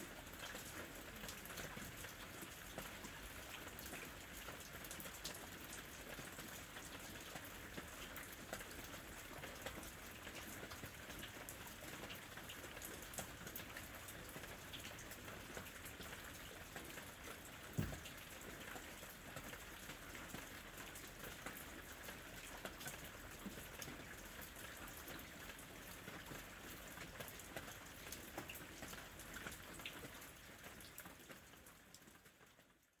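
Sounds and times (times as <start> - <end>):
rain falling: 0.0 - 32.7.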